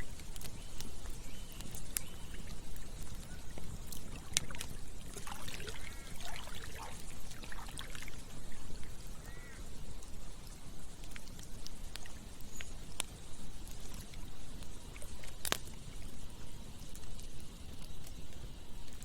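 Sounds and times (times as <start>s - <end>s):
campfire crackling and popping: 0.0s - 19.0s
stream trickling and gurgling: 0.0s - 19.0s.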